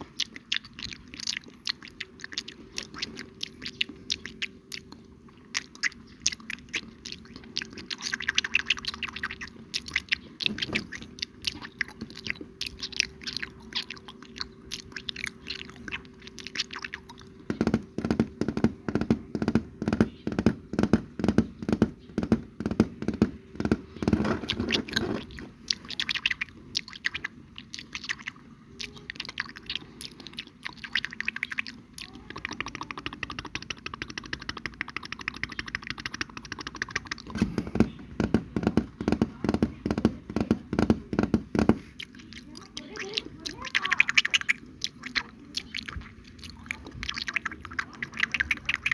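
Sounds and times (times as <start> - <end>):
wet mouth clicks and smacks: 0.0 - 18.8, 23.0 - 40.2, 41.5 - 48.9.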